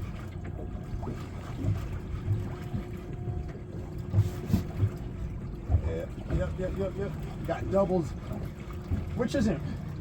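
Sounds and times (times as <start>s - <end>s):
low thumps on boat: 0.0s - 10.0s.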